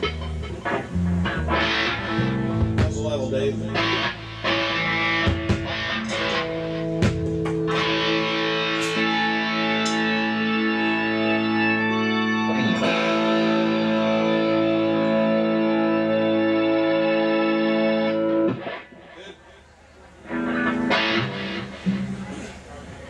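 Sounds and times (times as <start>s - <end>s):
electric guitar strums and chords: 0.0s - 19.2s, 20.2s - 22.7s.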